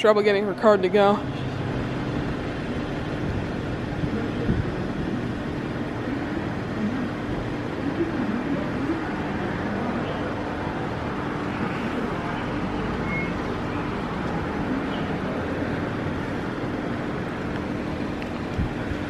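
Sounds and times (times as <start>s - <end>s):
machine humming: 0.7s - 19.0s.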